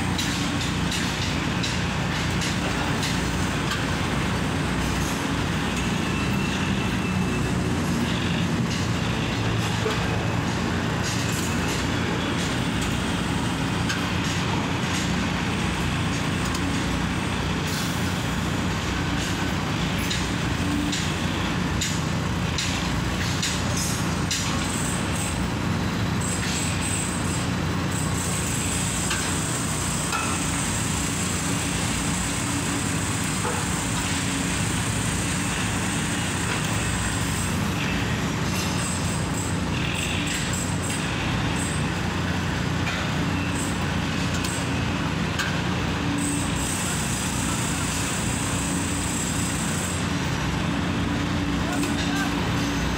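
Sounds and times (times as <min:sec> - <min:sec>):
heavy machinery drone: 0:00.0 - 0:52.9.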